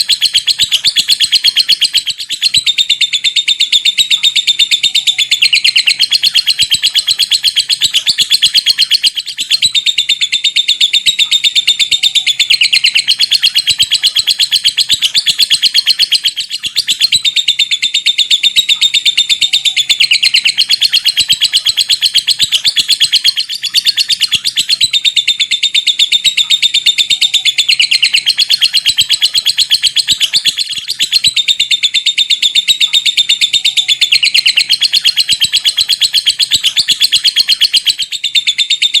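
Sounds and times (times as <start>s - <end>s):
lovebird chattering trill: 0.0s - 39.0s.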